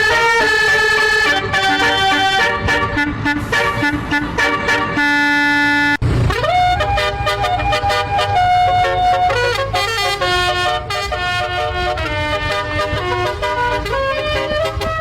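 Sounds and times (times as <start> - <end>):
musical bus horn playing tune: 0.0 - 15.0.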